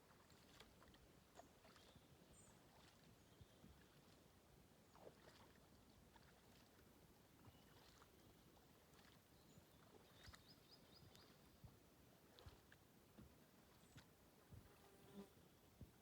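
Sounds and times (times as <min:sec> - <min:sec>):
kayak paddle splashes: 0:00.0 - 0:14.8.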